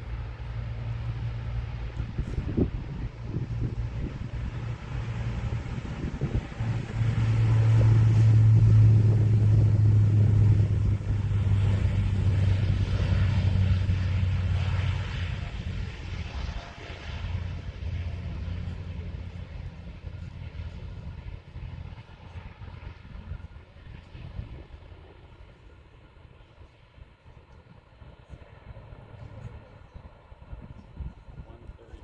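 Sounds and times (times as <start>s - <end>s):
aircraft engines droning: 0.0s - 32.0s.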